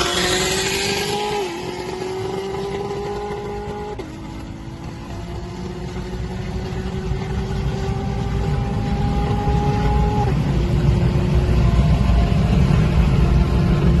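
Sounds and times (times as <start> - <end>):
car engine accelerating: 0.0 - 14.0
steady whine: 0.0 - 14.0.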